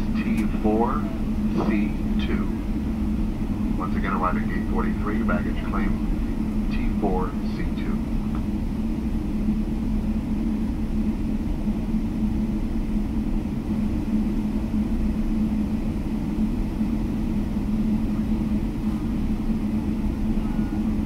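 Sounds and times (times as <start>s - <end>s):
airliner cabin hum and rumble: 0.0s - 21.0s.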